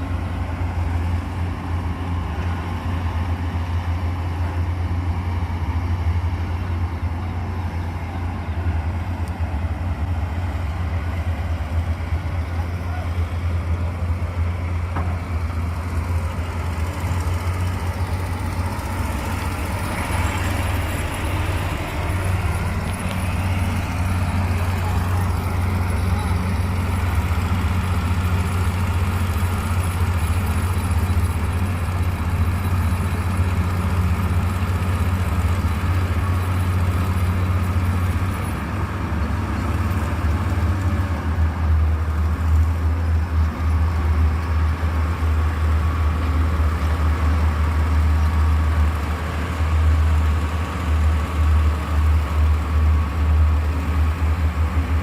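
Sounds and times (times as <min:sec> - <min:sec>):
heavy machinery engine rumbling: 0:00.0 - 0:55.0.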